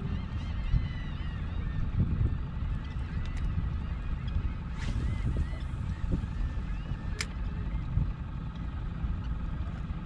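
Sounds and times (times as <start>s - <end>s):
boat engine rumble: 0.0s - 10.0s
seabirds calling faintly: 0.0s - 10.0s
wind rumble: 0.0s - 10.0s.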